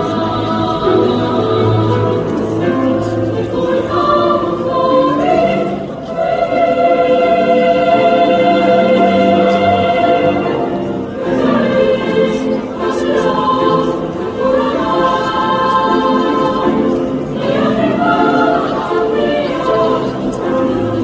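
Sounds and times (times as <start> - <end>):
girls' choir singing: 0.0 - 21.0.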